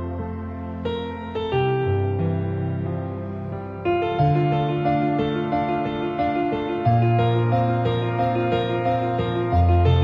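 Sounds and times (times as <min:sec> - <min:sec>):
calm background music: 0:00.0 - 0:10.0.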